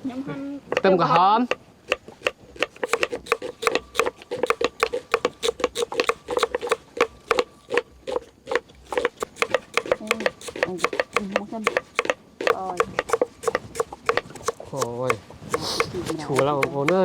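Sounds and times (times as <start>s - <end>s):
knife chopping on wooden board: 0.7s - 17.0s.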